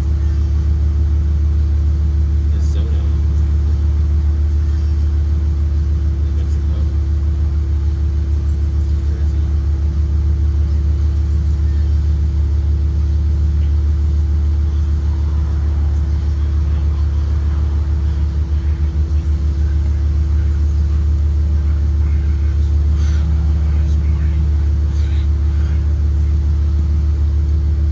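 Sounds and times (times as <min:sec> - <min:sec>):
bus engine and road rumble: 0:00.0 - 0:27.9
constant hum: 0:00.0 - 0:27.9.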